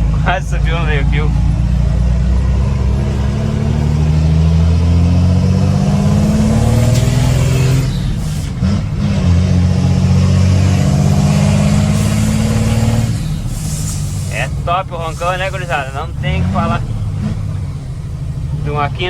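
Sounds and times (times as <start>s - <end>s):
diesel truck engine accelerating: 0.0s - 19.0s.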